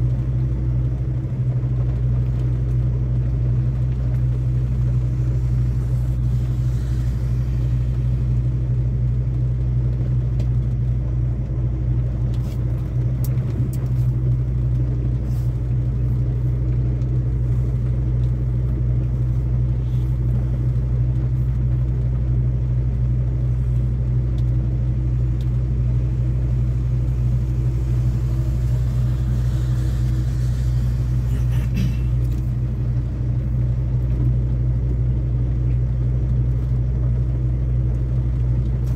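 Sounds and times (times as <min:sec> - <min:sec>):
diesel truck engine drone: 0:00.0 - 0:38.9.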